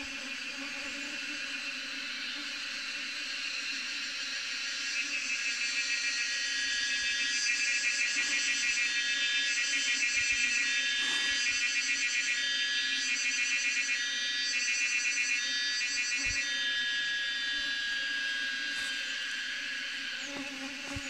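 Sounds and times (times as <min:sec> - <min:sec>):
bee swarm humming: 0:00.0 - 0:03.9, 0:05.1 - 0:12.6, 0:15.3 - 0:21.0.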